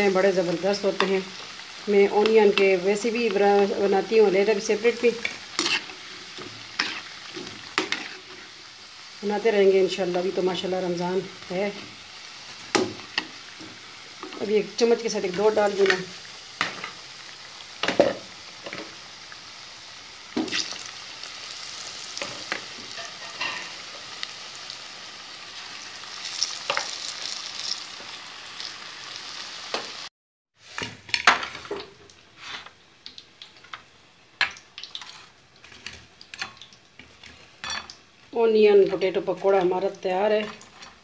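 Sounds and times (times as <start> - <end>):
food deep-frying in oil: 0.0 - 41.0.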